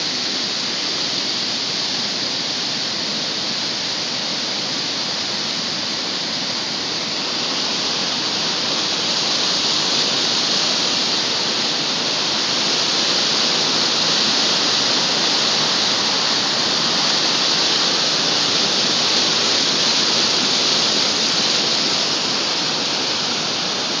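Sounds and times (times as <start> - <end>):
turbulent white water rushing: 0.0 - 24.0.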